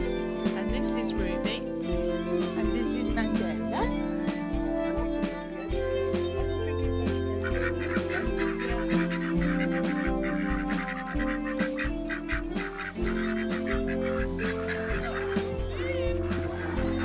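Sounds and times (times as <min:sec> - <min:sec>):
background music with beat: 0:00.0 - 0:17.0
ducks quacking: 0:00.0 - 0:17.0.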